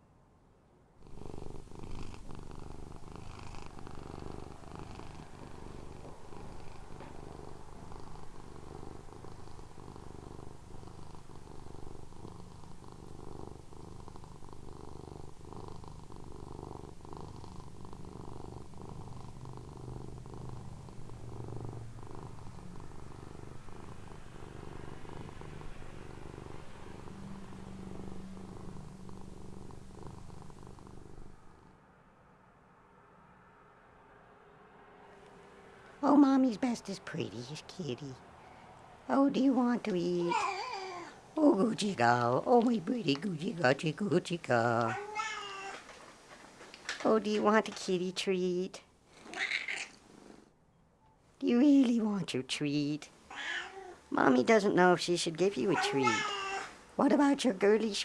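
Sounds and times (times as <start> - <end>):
cat purring: 0.9 - 31.9, 36.0 - 50.6, 51.4 - 58.0.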